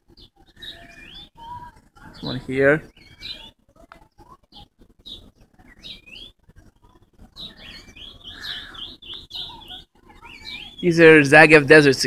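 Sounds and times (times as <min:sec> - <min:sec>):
songbird chirping and warbling: 0:00.0 - 0:12.0.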